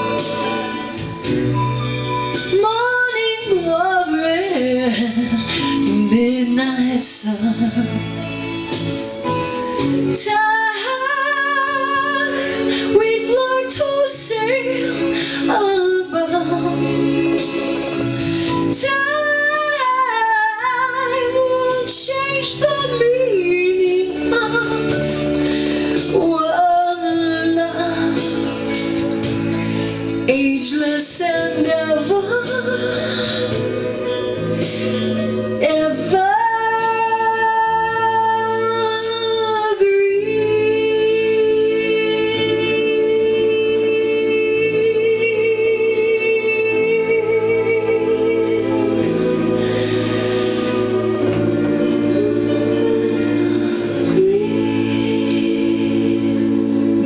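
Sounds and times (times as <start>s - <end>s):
instrumental backing track: 0.0s - 57.0s
woman singing: 2.3s - 8.4s, 9.7s - 29.2s, 30.1s - 57.0s.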